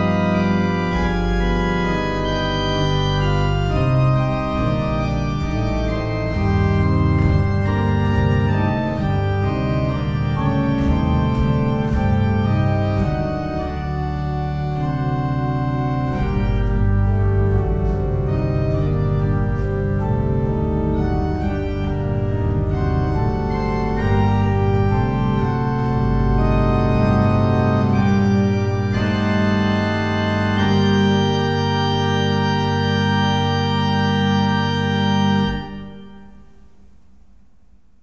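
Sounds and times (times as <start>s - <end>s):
pipe organ chords: 0.0s - 38.0s.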